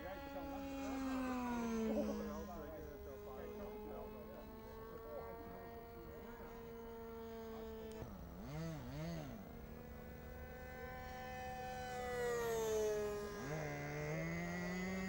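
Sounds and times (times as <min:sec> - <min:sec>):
model airplane engine overhead: 0:00.0 - 0:15.0.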